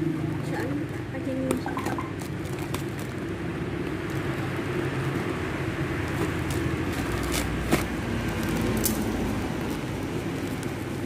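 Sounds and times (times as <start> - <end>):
paper rustling and crinkling: 0.4 - 11.0.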